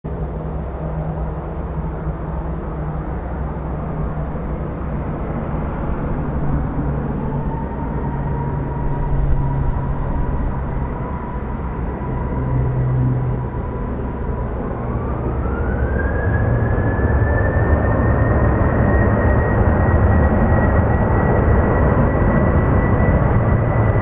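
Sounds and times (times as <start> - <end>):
distant jet engines humming: 0.1 - 24.0
faint high whine: 0.1 - 24.0.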